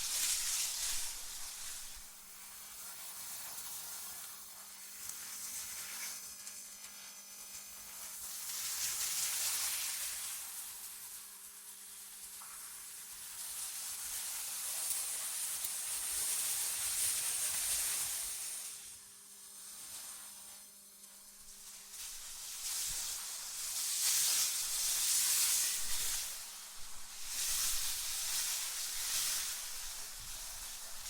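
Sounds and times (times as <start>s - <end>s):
synthetic wind hiss: 0.0s - 3.6s, 8.0s - 31.0s.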